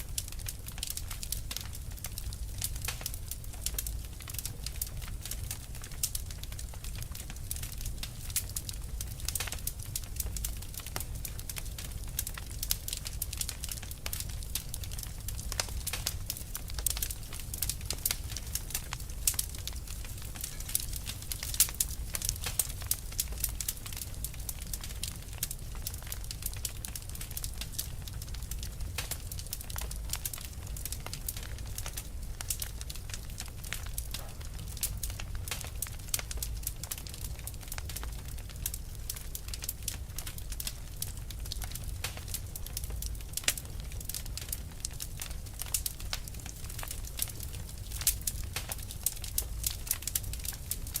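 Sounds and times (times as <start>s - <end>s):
low rumble of flames: 0.0s - 51.0s
burning wood popping and snapping: 0.1s - 51.0s.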